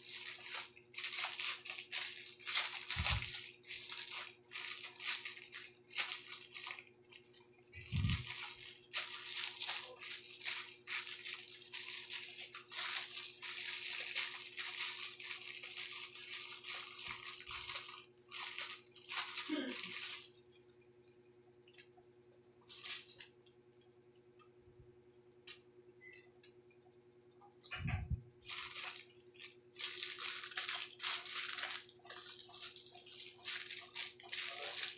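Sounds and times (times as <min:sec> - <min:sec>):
plastic bags crinkling: 0:00.0 - 0:20.6, 0:22.6 - 0:23.4, 0:27.6 - 0:34.9.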